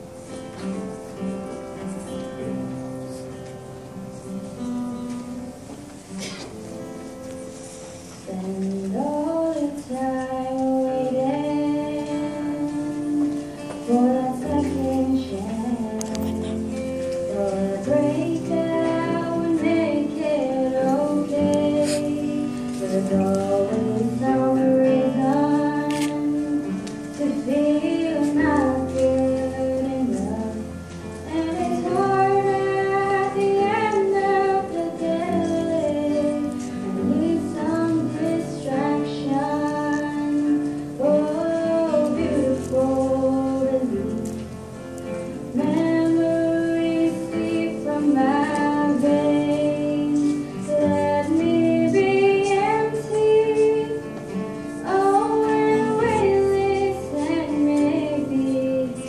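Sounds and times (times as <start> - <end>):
acoustic guitar: 0.0 - 59.0
choir singing slow song: 8.3 - 44.2, 45.2 - 59.0.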